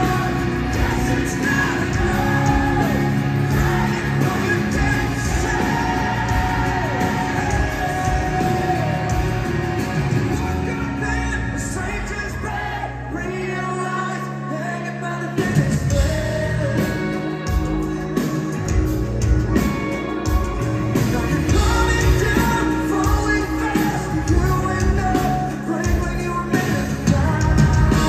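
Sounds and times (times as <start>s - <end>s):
man singing: 0.0s - 19.5s, 20.2s - 28.0s
live rock band playing: 0.0s - 28.0s.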